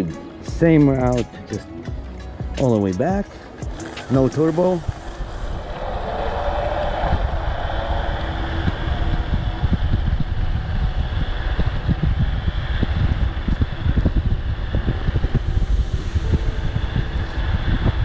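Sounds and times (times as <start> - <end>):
wind buffeting microphone: 2.9 - 18.0.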